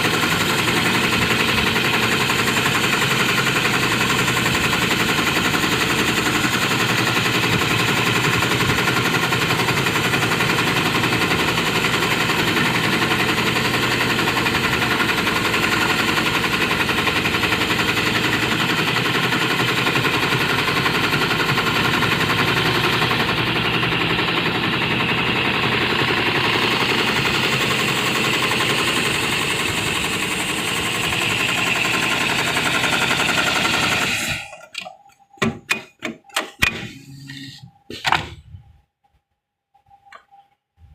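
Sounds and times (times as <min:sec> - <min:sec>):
industrial sewing machine clattering: 0:00.0 - 0:34.6.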